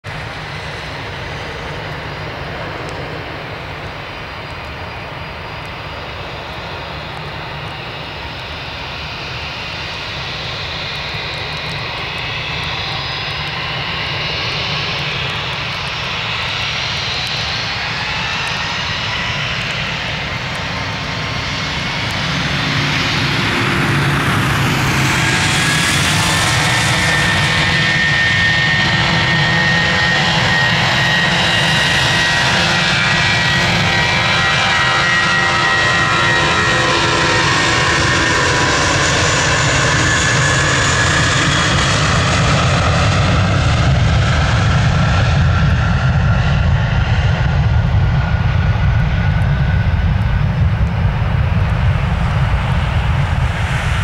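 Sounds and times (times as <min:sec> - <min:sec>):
jet engines whining: 0:00.1 - 0:54.0.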